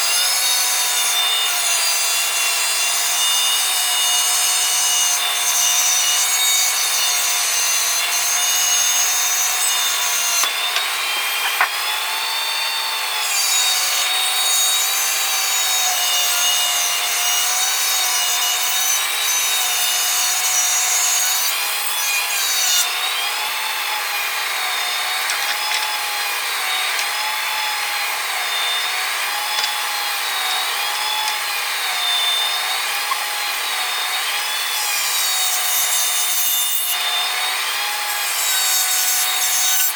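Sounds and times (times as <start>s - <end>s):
electric power tool whining: 0.0s - 39.9s.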